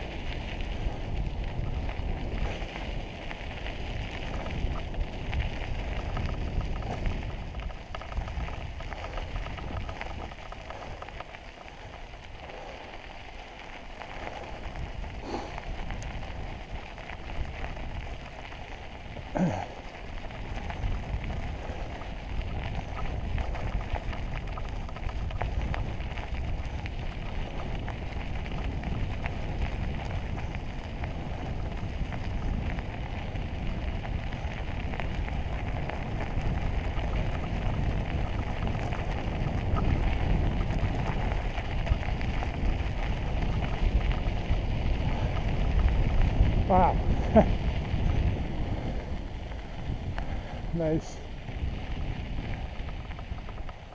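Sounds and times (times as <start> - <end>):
bike tyres crunching on gravel: 0.0 - 53.9.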